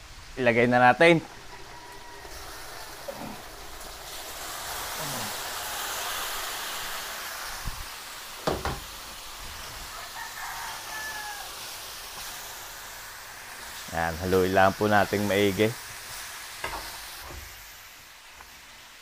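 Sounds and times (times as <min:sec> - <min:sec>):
meat sizzling in hot sauce: 0:00.0 - 0:19.0.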